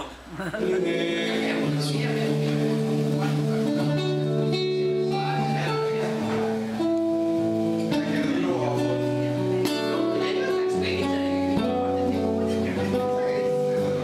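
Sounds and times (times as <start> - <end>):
slow acoustic guitar music: 0.3 - 14.0.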